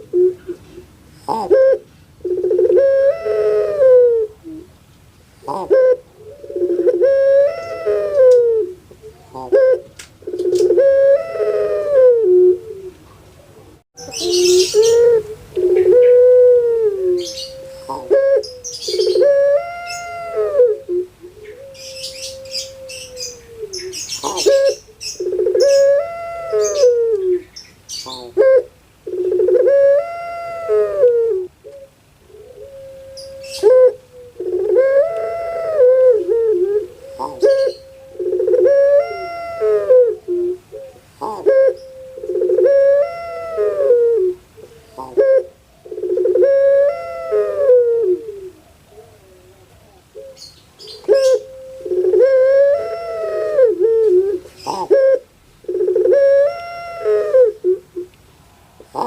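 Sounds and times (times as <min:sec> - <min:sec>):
dove cooing: 0:00.0 - 0:04.8, 0:05.4 - 0:58.2, 0:58.8 - 0:59.0.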